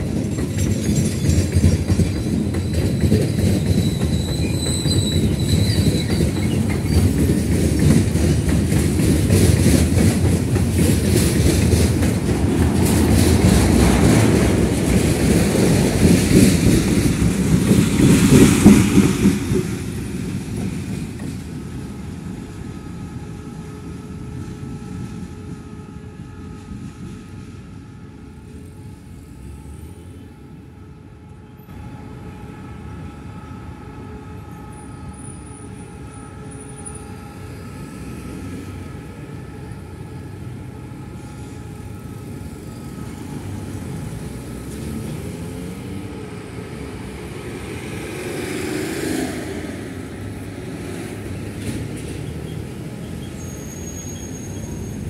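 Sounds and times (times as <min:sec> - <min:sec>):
diesel locomotive drone: 0:00.0 - 0:55.0.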